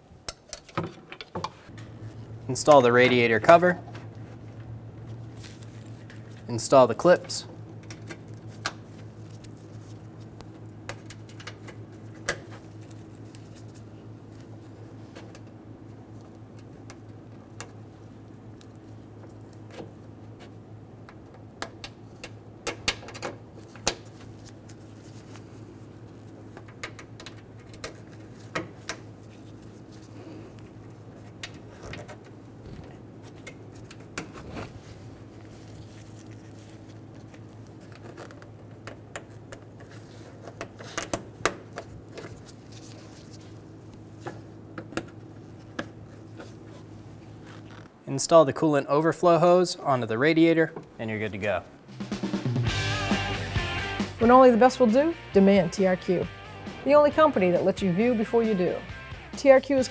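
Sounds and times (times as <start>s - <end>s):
steady low hum: 1.5s - 59.9s.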